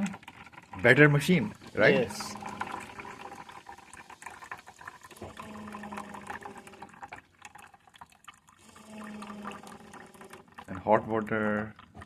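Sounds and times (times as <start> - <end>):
coffee machine pump humming: 0.0 - 12.0
liquid pouring into cup: 0.0 - 12.0.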